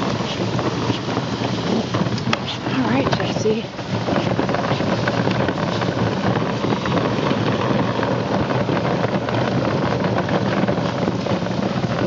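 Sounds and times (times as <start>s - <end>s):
push sweeper rattling over pavement: 0.0s - 12.0s.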